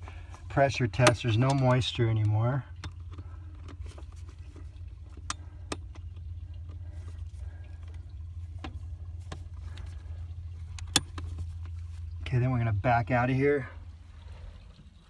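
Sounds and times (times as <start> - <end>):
faint clicks and knocks: 0.0 - 12.3
steady low hum: 0.0 - 15.0.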